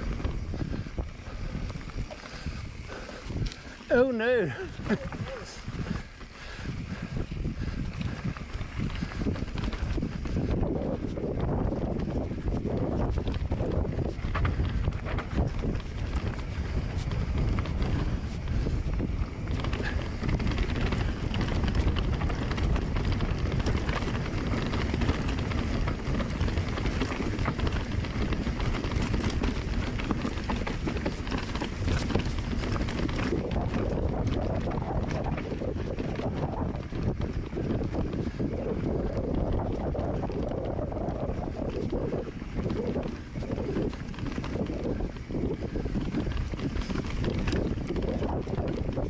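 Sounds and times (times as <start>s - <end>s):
bike clacks and rattles: 0.0s - 49.0s
bike tyre noise on dirt: 0.0s - 49.0s
wind rumble on microphone: 0.0s - 49.0s.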